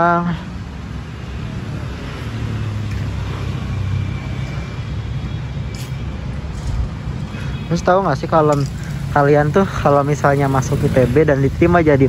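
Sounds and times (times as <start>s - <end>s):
road noise: 0.0s - 12.0s
vehicle engine hum passing: 0.0s - 12.0s.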